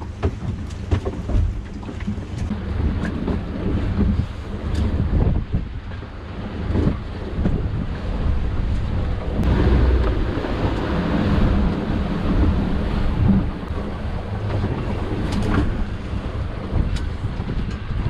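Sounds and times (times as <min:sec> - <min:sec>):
waves washing against hull: 0:00.0 - 0:18.0
wind buffeting microphone: 0:00.0 - 0:18.0.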